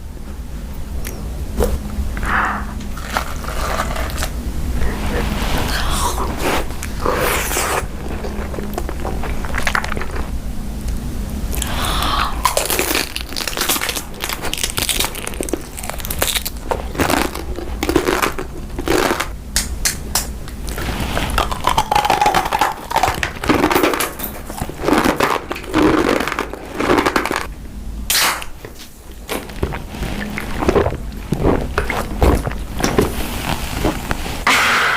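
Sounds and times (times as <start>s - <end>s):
crunchy food being chewed: 2.8s - 4.4s, 6.4s - 27.5s, 28.6s - 34.3s.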